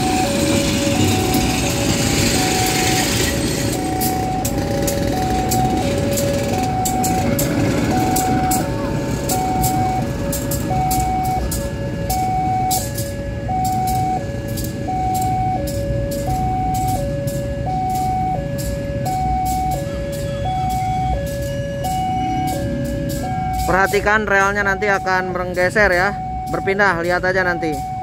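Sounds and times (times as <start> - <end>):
diesel locomotive rumble: 0.0 - 28.0
two-tone crossing alarm: 0.0 - 28.0.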